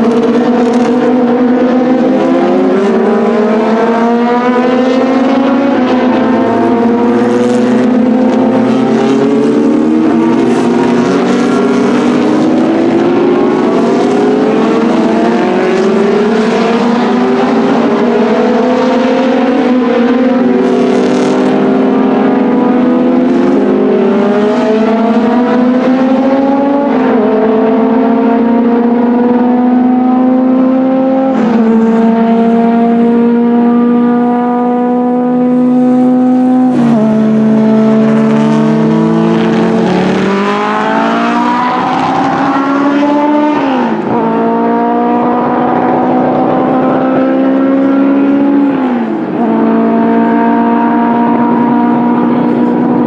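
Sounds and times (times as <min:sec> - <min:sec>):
racing car engines at full throttle: 0:00.0 - 0:53.0.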